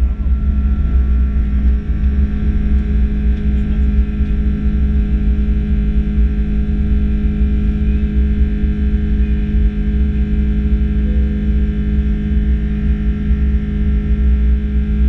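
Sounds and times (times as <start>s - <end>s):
jet engines droning in cabin: 0.0s - 15.0s
whining engine tones: 0.0s - 15.0s.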